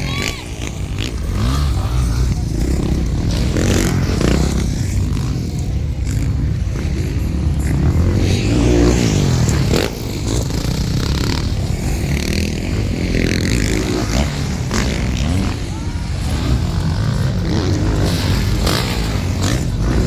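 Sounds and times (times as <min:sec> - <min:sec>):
motocross bikes engines revving: 0:00.0 - 0:20.0.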